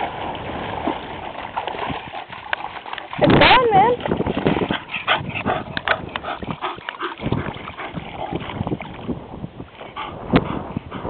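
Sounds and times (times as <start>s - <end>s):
dog wading splashing water: 0.0s - 9.9s.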